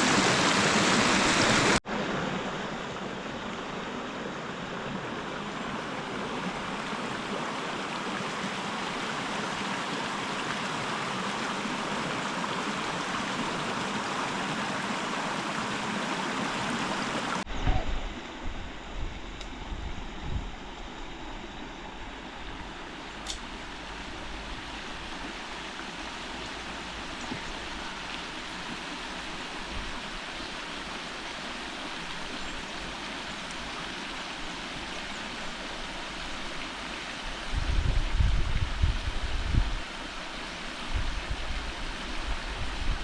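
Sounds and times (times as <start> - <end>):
flowing river water: 0.0 - 43.0.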